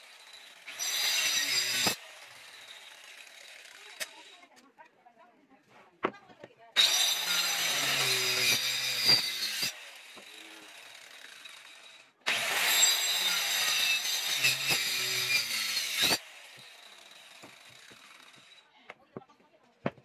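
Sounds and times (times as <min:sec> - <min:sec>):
circular saw cutting wood: 0:00.0 - 0:04.6, 0:06.8 - 0:18.7.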